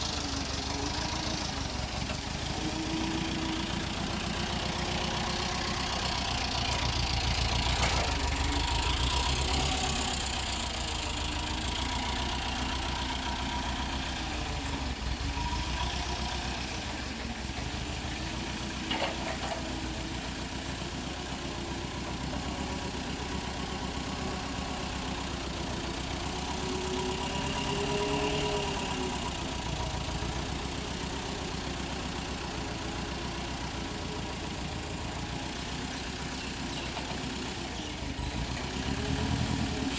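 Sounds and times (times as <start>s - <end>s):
forklift engine running: 0.0s - 39.9s.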